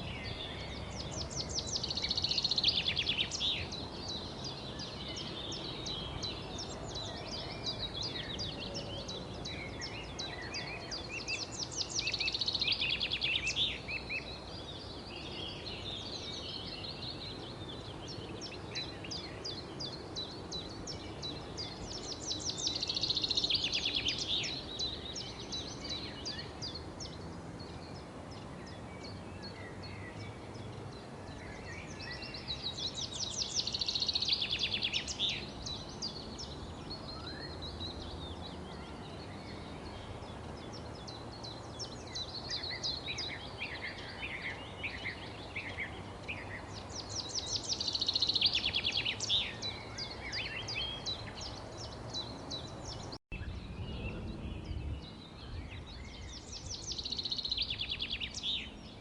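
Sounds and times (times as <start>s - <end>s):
small birds chirping: 0.0s - 59.0s
steady low background noise: 0.0s - 59.0s.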